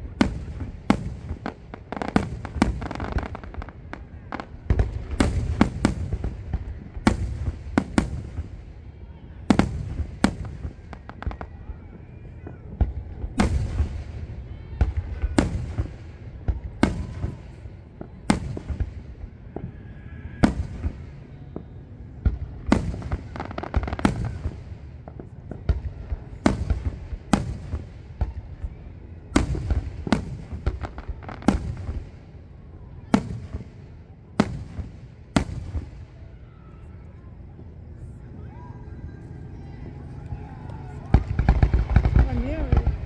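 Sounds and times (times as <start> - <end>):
fireworks bursting: 0.0 - 8.9, 9.5 - 38.4, 39.0 - 43.0.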